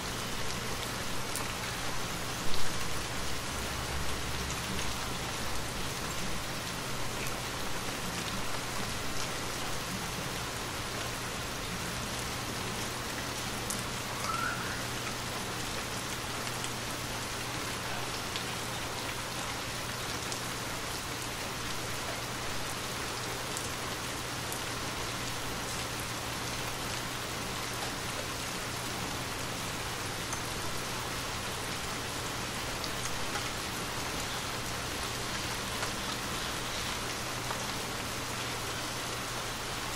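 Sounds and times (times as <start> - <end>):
steady rain: 0.0 - 39.9
raindrops ticking close by: 0.1 - 39.9.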